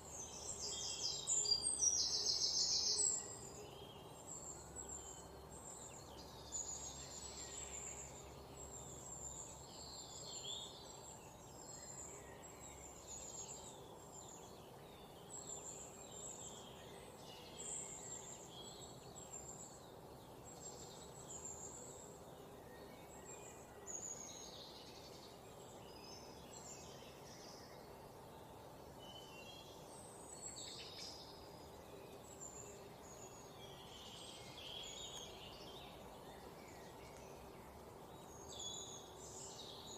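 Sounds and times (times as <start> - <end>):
low background hiss: 0.0 - 39.9
songbirds chirping: 0.0 - 39.9.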